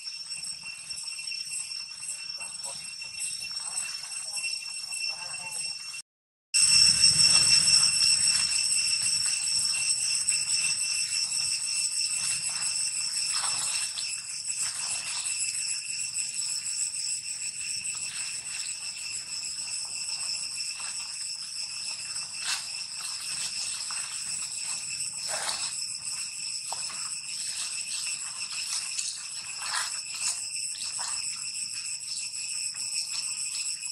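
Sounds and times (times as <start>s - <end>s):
insects droning: 0.0s - 5.9s, 6.6s - 33.9s.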